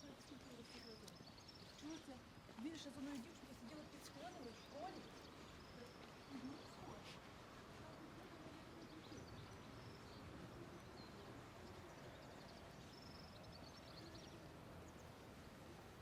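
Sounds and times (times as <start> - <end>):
faint outdoor hum: 0.0 - 16.0.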